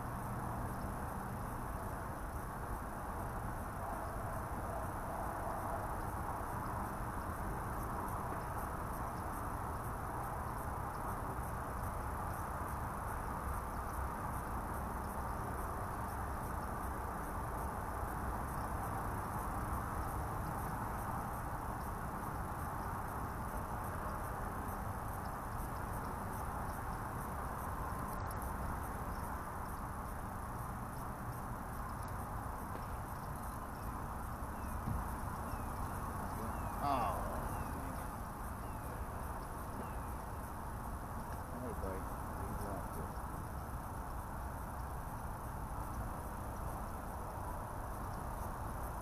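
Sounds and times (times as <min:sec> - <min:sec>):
insect chorus: 0:00.0 - 0:49.0
faint high ticking: 0:05.4 - 0:49.0.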